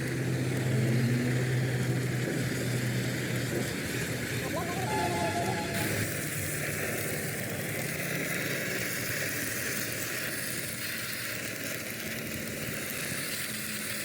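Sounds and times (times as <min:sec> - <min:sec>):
machine running with hiss: 0:00.0 - 0:14.0.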